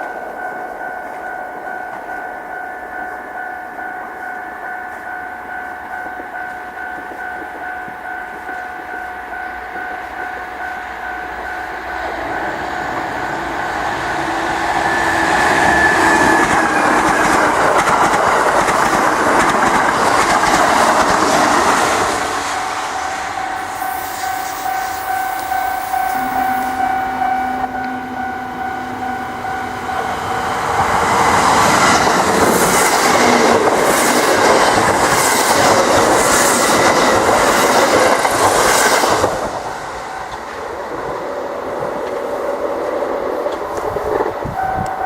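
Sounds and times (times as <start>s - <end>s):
level crossing alarm bell ringing: 0.0s - 40.9s, 44.5s - 45.0s
train passing with rail clatter: 0.0s - 45.0s.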